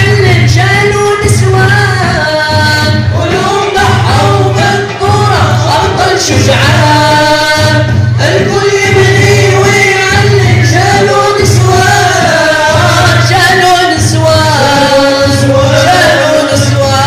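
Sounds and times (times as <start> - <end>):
hand drums beating: 0.0 - 17.0
male chorus singing: 0.0 - 17.0.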